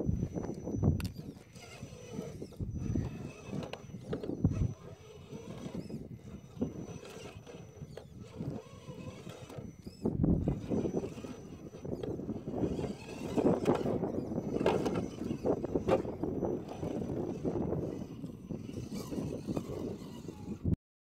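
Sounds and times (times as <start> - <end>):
small electric motor whirring: 0.0 - 20.8.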